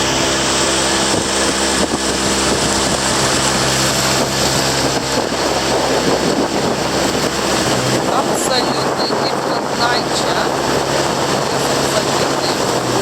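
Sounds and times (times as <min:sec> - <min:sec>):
engine running steadily: 0:00.0 - 0:13.0
wind noise on microphone: 0:00.0 - 0:13.0.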